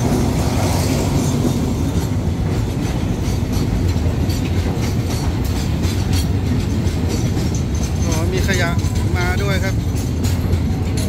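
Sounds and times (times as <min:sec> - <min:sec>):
freight train rumbling past: 0:00.0 - 0:11.0
wheels clicking over rail joints: 0:00.0 - 0:11.0.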